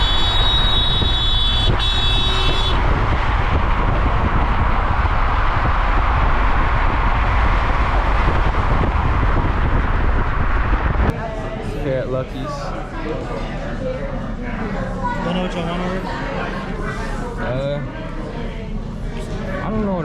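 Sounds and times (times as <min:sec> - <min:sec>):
deep engine rumble: 0:00.0 - 0:20.0
road and wind noise: 0:00.0 - 0:20.0.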